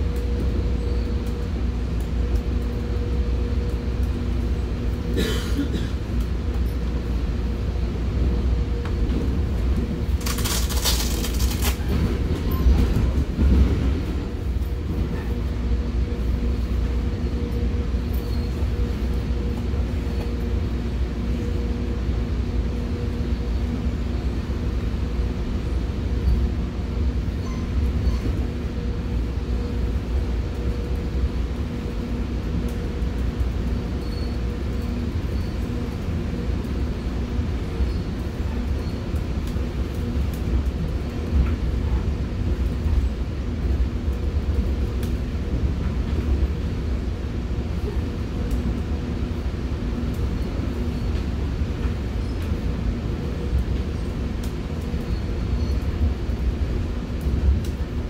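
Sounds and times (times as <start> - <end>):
constant hum: 0.0 - 58.0
train rumble inside coach: 0.0 - 58.0.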